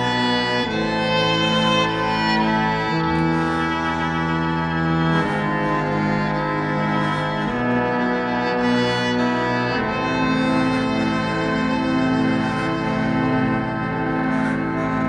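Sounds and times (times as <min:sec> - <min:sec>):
slow instrumental held chords: 0:00.0 - 0:15.0.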